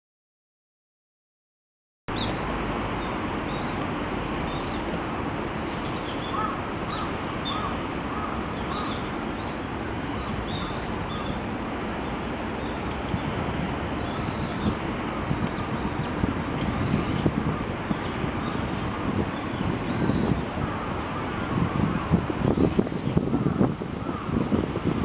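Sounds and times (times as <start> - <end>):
rushing background noise: 2.1 - 25.0.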